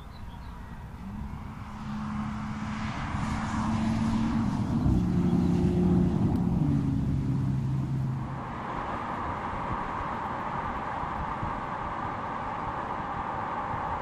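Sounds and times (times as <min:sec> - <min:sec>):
car engine passing by: 0:00.2 - 0:14.0.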